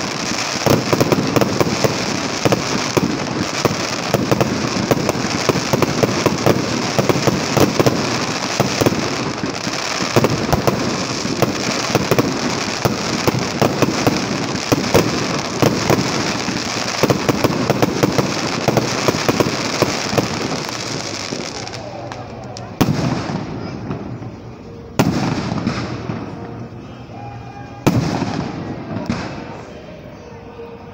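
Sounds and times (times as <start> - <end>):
fireworks crackling and popping: 0.0 - 26.8, 27.8 - 29.8.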